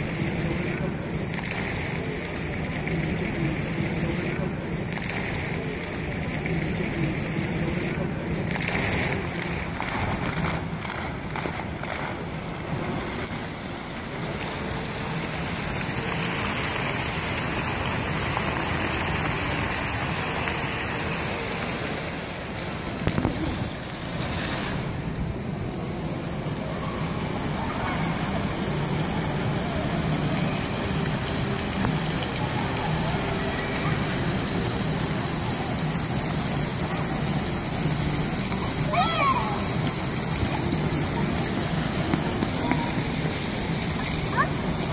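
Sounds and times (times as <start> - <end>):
fountain water splashing: 0.0 - 44.9
murmur of voices: 0.0 - 44.9.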